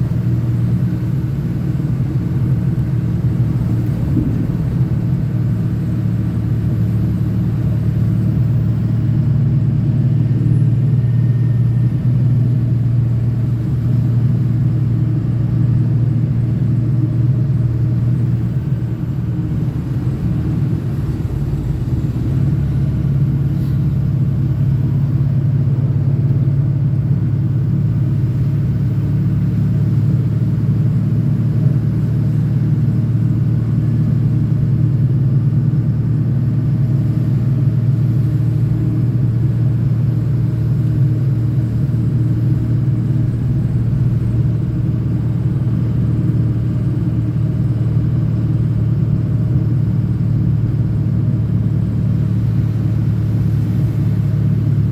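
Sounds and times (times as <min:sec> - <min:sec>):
diesel truck engine and road rumble: 0:00.0 - 0:54.9.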